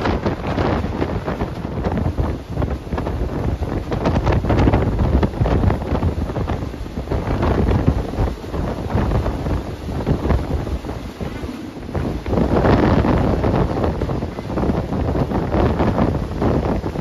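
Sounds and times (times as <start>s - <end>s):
passenger train running: 0.0s - 17.0s
wind buffeting microphone: 0.0s - 17.0s.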